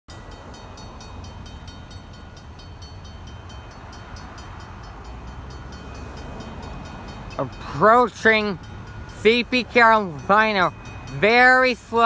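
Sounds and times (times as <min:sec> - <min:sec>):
diesel locomotive rumble: 0:00.1 - 0:12.0.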